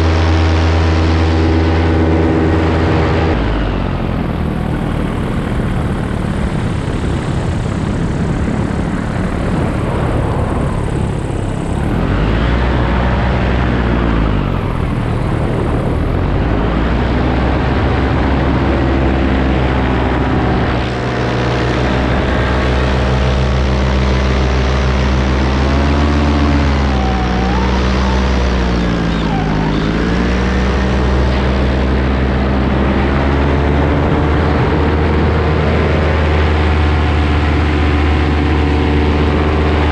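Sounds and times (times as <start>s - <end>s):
paramotor engine and propeller: 0.0s - 39.9s
rushing wind noise: 0.0s - 39.9s.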